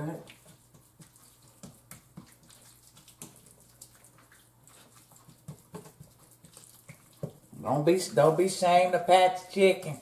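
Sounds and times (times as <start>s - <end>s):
hands squelching raw chicken: 0.0s - 8.4s.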